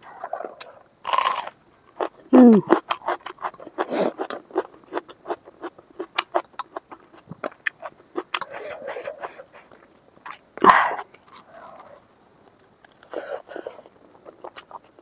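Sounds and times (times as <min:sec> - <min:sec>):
chewing food with crunches: 0:00.0 - 0:15.0.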